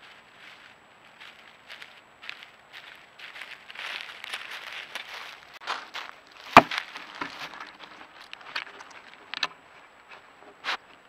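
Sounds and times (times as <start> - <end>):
dry leaves crackling and rustling: 0.0 - 9.4.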